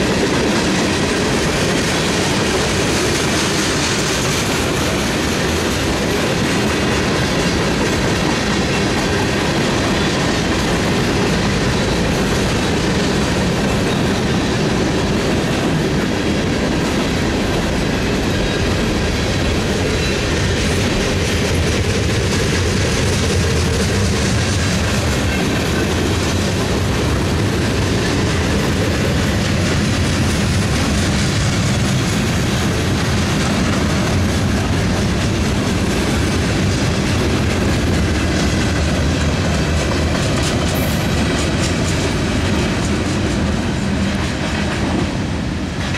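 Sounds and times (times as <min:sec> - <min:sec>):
freight train wheels clacking: 0:00.0 - 0:45.9.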